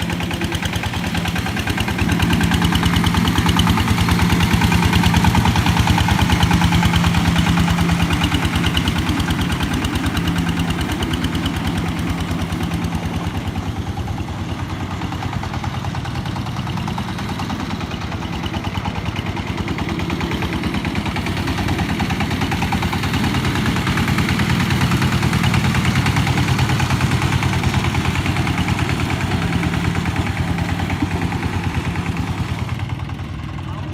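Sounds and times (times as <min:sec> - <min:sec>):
tiller engine running: 0:00.0 - 0:33.9.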